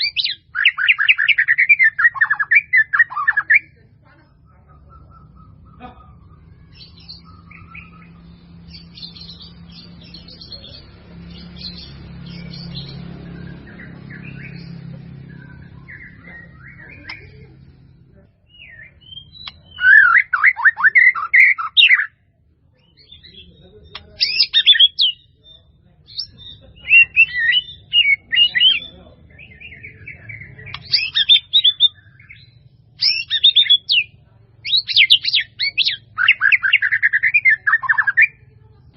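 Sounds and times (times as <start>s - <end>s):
bird singing whistles and chirps: 0.0s - 3.8s, 6.4s - 17.4s, 18.5s - 22.2s, 22.8s - 38.4s.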